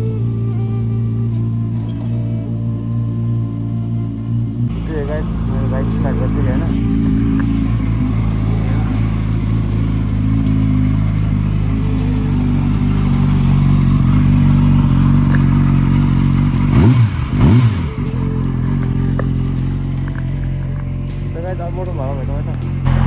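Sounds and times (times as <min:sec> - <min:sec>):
engine revving blips: 0:00.0 - 0:23.0
motorcycle engine idling: 0:00.0 - 0:23.0.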